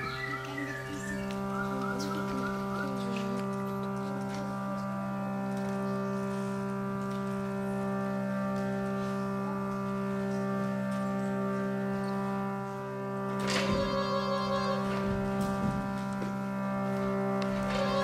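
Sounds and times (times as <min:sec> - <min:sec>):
sustained droning chord: 0:00.0 - 0:18.0
wavering instrument line: 0:00.0 - 0:18.0.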